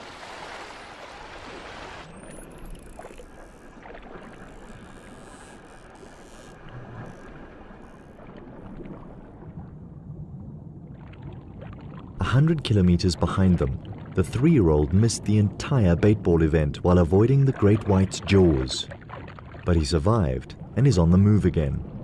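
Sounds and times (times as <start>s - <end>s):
underwater ambience: 0.0s - 22.0s
wind and water rushing: 0.0s - 22.0s.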